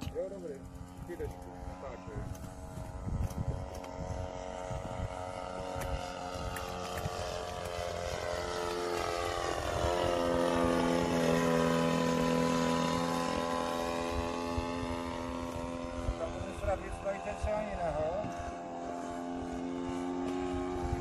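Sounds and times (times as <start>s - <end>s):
model airplane propeller engine droning: 0.0s - 21.0s.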